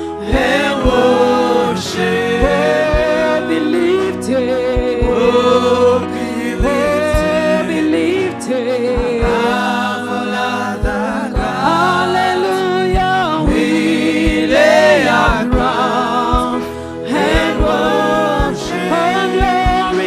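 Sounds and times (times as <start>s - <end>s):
voices singing: 0.0s - 20.0s
band playing: 0.2s - 20.0s.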